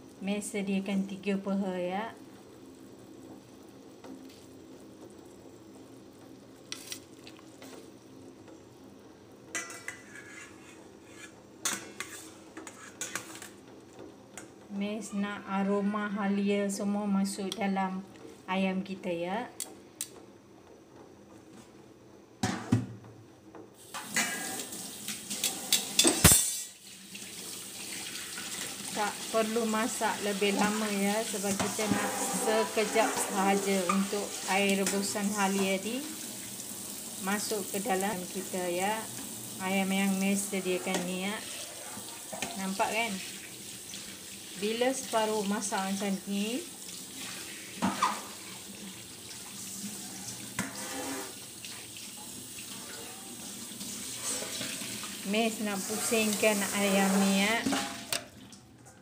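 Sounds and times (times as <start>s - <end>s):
water boiling in a pot: 0.0s - 16.9s, 23.7s - 58.8s.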